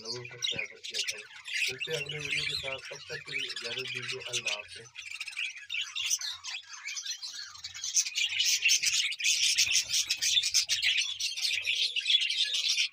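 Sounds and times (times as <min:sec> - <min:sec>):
budgerigars chattering: 0:00.0 - 0:12.9.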